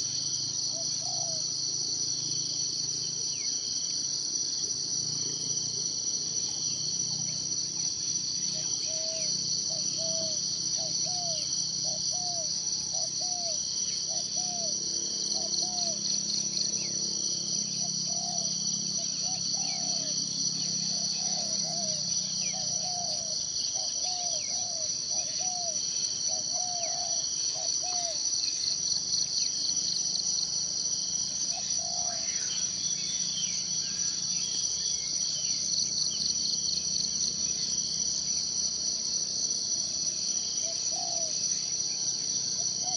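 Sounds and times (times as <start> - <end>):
insects chorus pulsing: 0.0 - 42.9.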